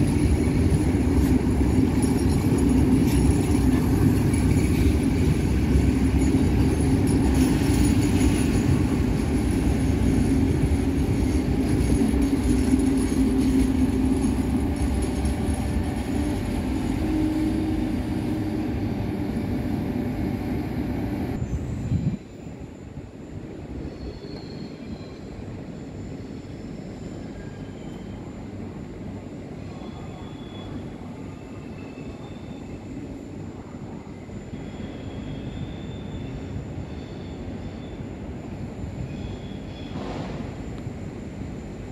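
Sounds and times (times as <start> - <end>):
train wheel squeals: 0.0 - 20.0, 21.4 - 23.0, 23.6 - 41.8
train rumbling past: 0.0 - 41.9.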